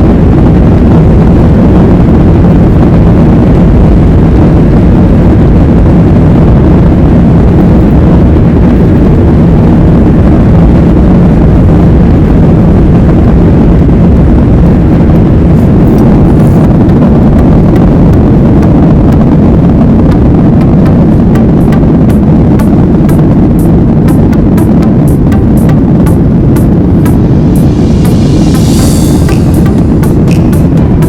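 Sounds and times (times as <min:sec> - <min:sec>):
helicopter engine and rotors drone: 0:00.0 - 0:31.0.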